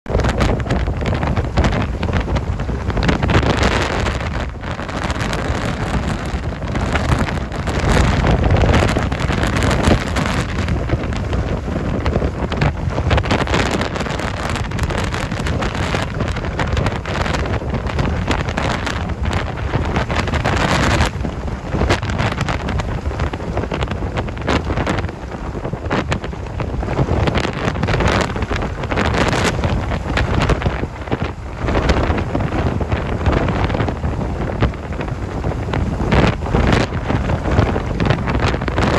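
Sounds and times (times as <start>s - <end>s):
strong wind buffeting microphone: 0.0s - 38.9s
heavy surf breaking: 0.1s - 38.9s.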